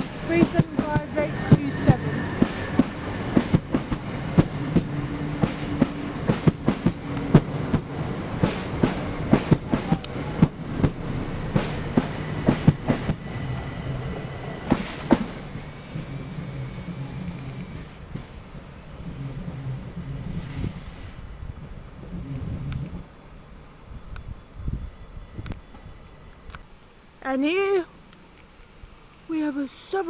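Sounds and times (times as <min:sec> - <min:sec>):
train wheels clicking over rail joints: 0:00.0 - 0:24.3
steady low hum: 0:00.0 - 0:26.4.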